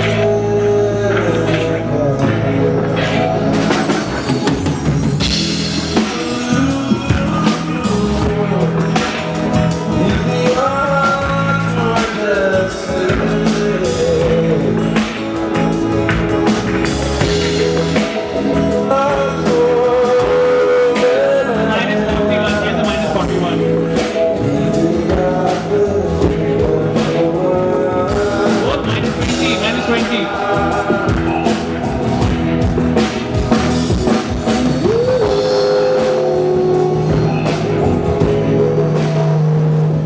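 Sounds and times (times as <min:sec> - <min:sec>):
person singing: 0:00.0 - 0:33.3, 0:34.1 - 0:40.0
drum kit: 0:00.0 - 0:40.0
live rock band playing: 0:00.0 - 0:40.0.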